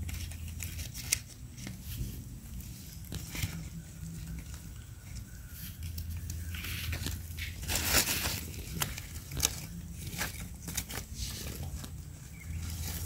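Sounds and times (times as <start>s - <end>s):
leaves and twigs crackling: 0.0s - 13.0s.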